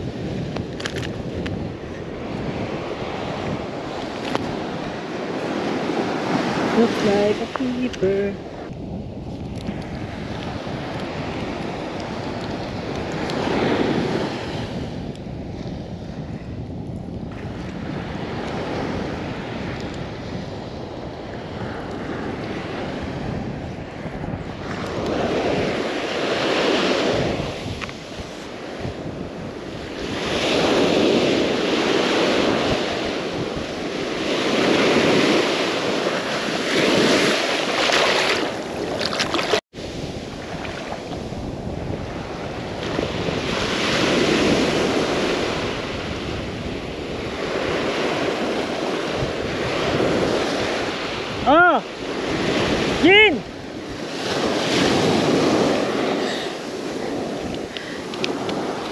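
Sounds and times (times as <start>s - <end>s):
ocean surf breaking: 0.0s - 16.6s, 17.3s - 58.9s
wind buffeting microphone: 0.0s - 58.9s.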